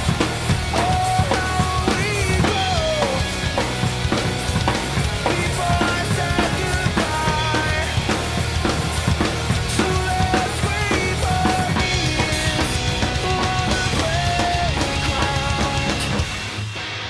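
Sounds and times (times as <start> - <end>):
drum kit played fast: 0.0 - 17.0
recorded song with melody: 0.0 - 17.0.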